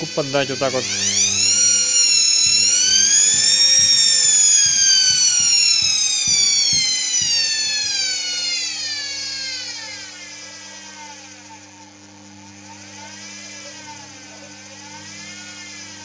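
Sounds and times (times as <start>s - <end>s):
steady motor hum: 0.0s - 16.0s
washing machine motor whining: 0.0s - 16.0s.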